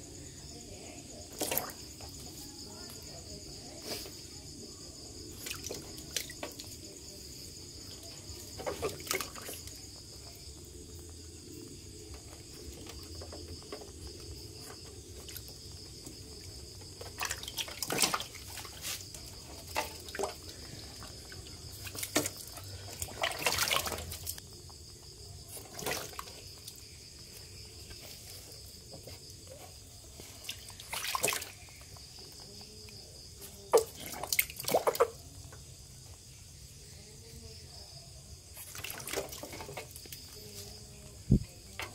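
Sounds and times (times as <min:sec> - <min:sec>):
water splashing in a plastic tub: 0:00.5 - 0:04.1, 0:04.9 - 0:36.0, 0:38.4 - 0:41.9.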